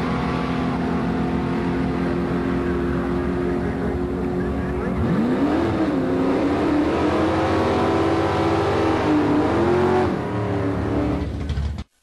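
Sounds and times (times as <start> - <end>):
drag race cars at full throttle: 0.0 - 11.9.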